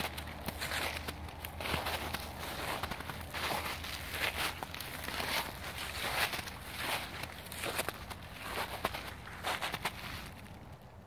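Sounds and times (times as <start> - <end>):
footsteps crunching on snow and leaves: 0.0 - 10.8.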